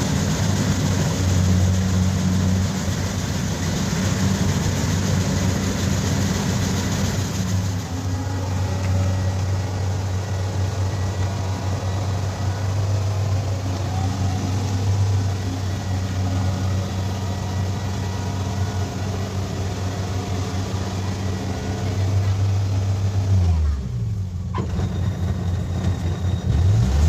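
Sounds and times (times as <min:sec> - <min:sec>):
combine harvester diesel engine drone: 0:00.0 - 0:27.0.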